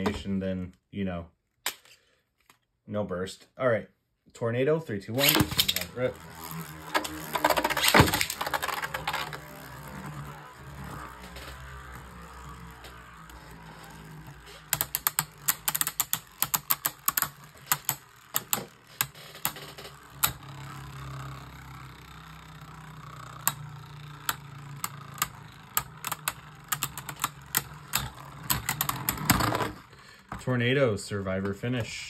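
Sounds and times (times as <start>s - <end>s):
spinning tops whirring: 5.0s - 32.0s.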